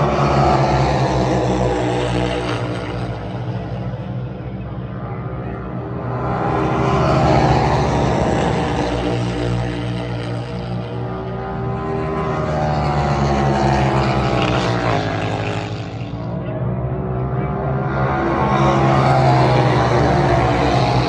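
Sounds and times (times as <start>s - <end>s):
racing motorcycles passing: 0.0s - 21.0s.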